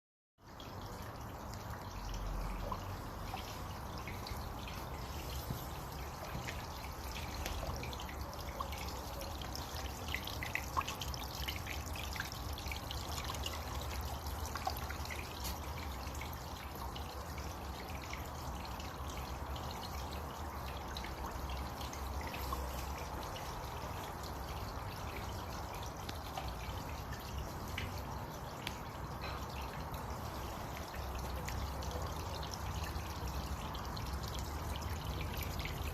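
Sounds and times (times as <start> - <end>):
small waterfall splashing: 0.5 - 35.9.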